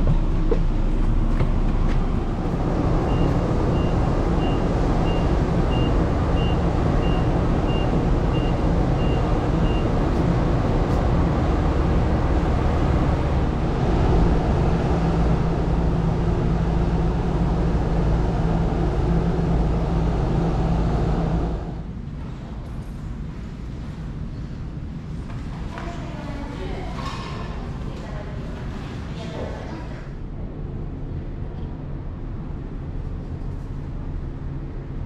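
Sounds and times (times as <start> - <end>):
ferry engines rumbling: 0.0 - 35.0.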